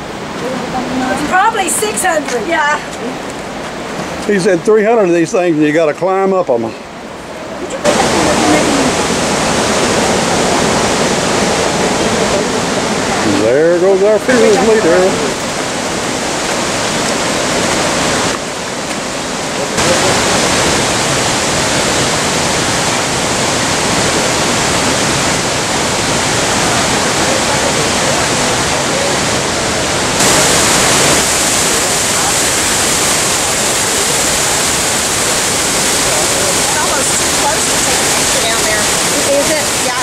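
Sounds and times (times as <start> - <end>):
waterfall and river rushing: 0.0 - 40.0.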